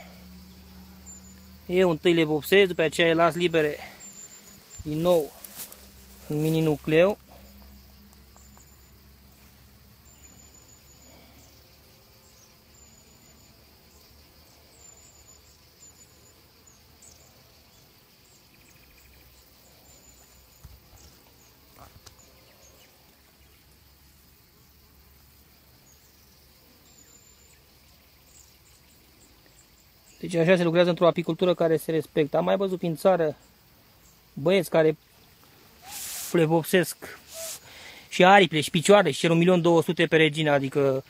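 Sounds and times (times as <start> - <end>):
insects chirping: 0.0 - 41.0
low hiss: 0.0 - 41.0.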